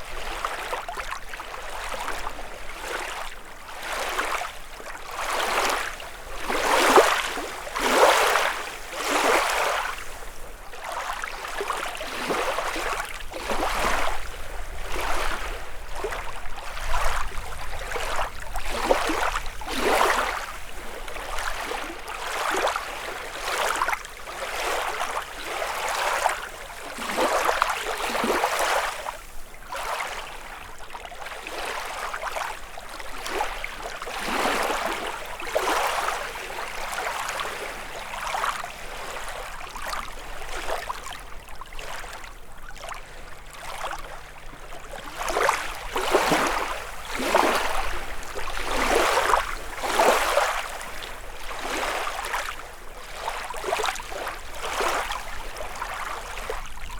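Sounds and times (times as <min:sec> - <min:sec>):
lake waves lapping on shore: 0:00.0 - 0:56.9.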